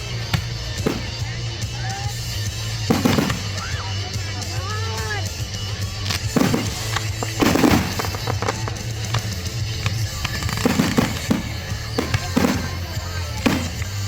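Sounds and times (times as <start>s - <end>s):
fireworks bursting: 0.0s - 14.0s
music with steady bass: 0.0s - 14.0s.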